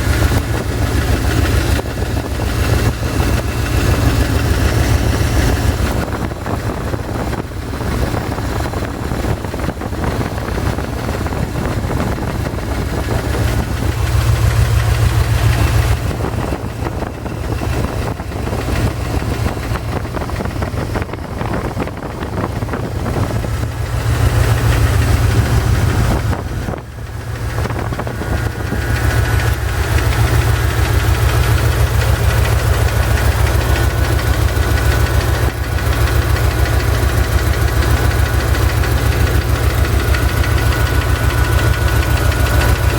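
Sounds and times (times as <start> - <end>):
engine knocking: 0.0 - 42.9.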